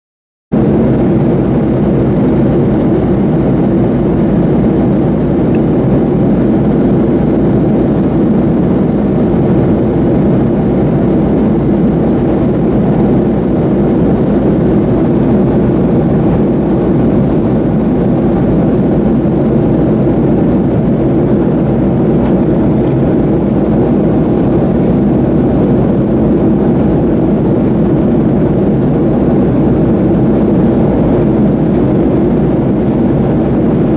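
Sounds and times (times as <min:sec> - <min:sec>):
airplane cabin drone: 0:00.5 - 0:33.9.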